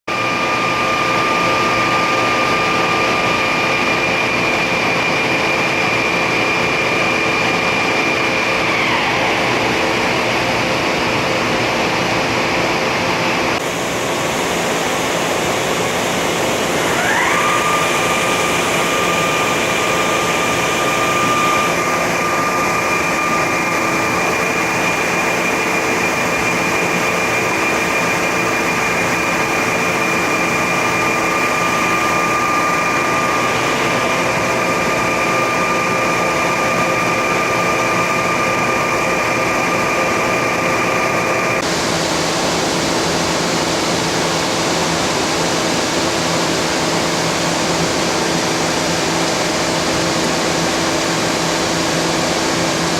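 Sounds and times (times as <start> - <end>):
high spindle whine: 0.1 - 52.9
steady machine hum: 0.1 - 52.9.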